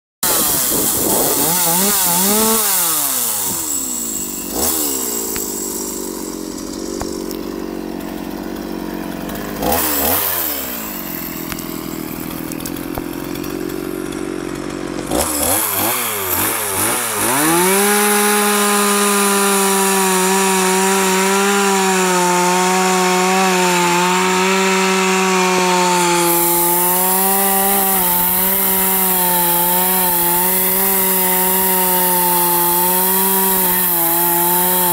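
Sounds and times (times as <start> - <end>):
chainsaw cutting log: 0.2 - 34.9
chainsaw revving: 0.2 - 34.9.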